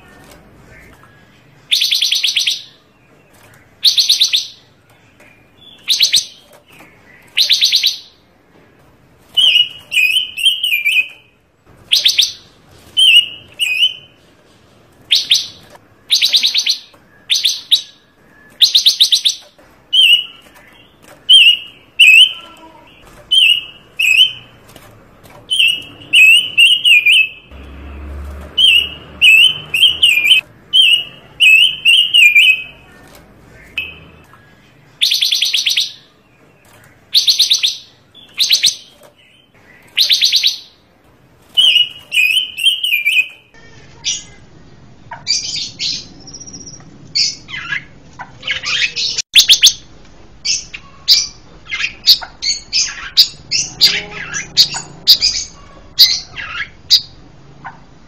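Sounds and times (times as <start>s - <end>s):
songbird singing harsh rattling phrases: 0.0s - 8.4s, 9.3s - 14.2s, 15.0s - 27.6s, 28.5s - 57.8s.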